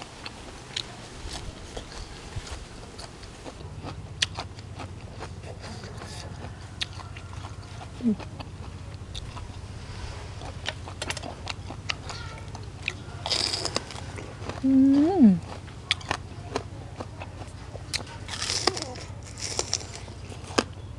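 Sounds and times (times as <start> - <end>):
wet chewing and crunching: 0.0 - 20.9.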